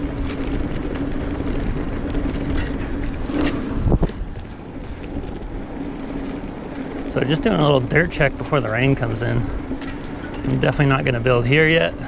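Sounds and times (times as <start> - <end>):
bike tyre and drivetrain noise: 0.0 - 12.0
wind on microphone: 0.0 - 12.0.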